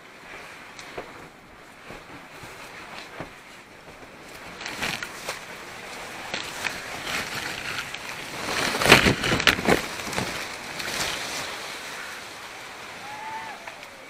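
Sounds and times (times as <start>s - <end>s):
leaves rustling: 0.0s - 14.0s.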